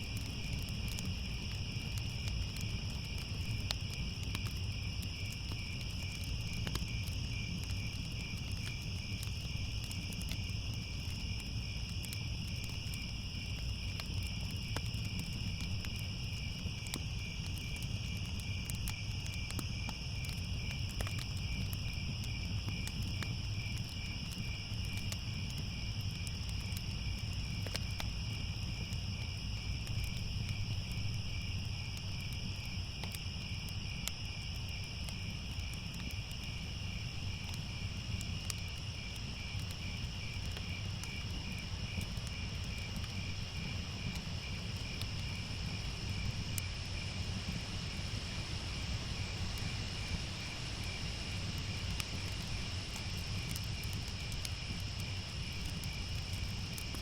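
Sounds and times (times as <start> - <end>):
crickets chirping: 0.0 - 57.0
fire crackles: 0.0 - 57.0.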